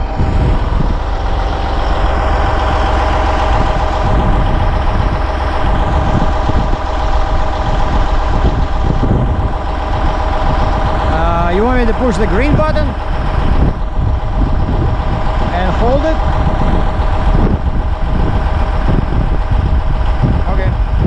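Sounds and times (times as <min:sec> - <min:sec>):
diesel engine idling: 0:00.0 - 0:21.0
steady engine whine: 0:00.0 - 0:21.0.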